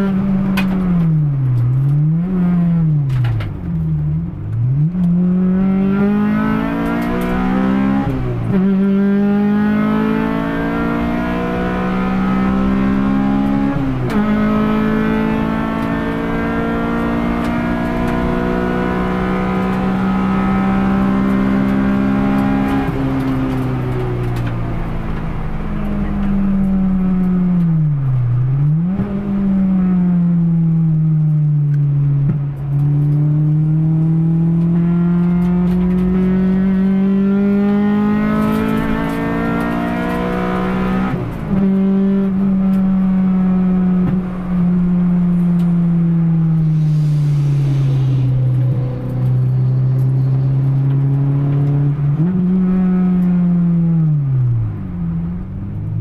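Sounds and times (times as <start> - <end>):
race car engine revving: 0.0 - 30.9, 31.7 - 56.0.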